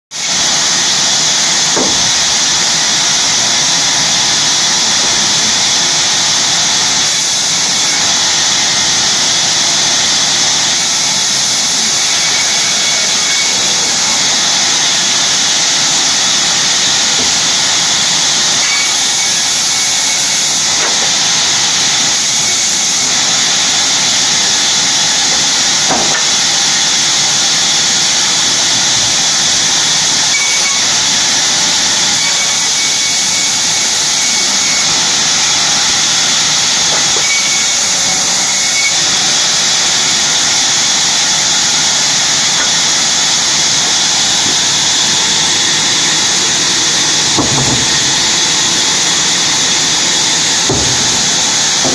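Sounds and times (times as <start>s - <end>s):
sawmill machinery hissing: 0.1s - 51.9s.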